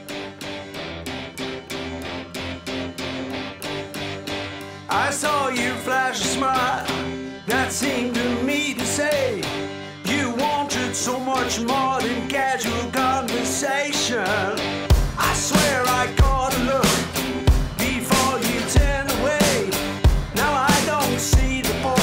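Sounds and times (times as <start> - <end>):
country rock band: 0.0 - 22.0
lead guitar: 0.0 - 22.0.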